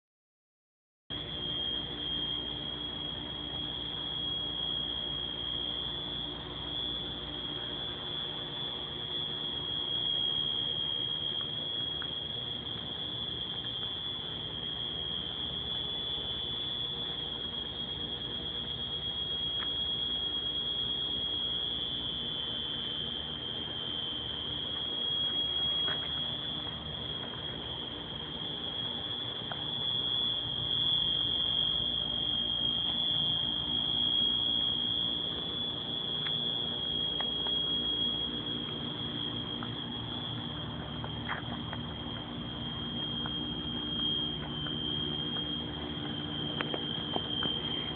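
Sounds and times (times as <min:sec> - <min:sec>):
fire alarm continuous tone: 0:01.1 - 0:47.9.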